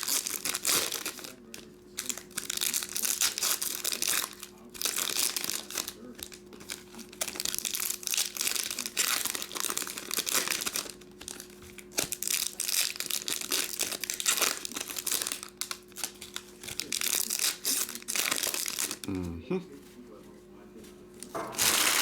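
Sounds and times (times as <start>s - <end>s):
wrappers tearing and crinkling: 0.0s - 19.2s, 21.2s - 22.0s.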